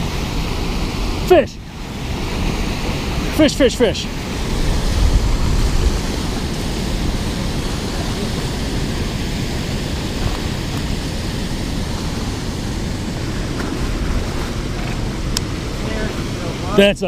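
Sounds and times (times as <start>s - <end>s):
water pouring over dam spillway: 0.0s - 17.0s.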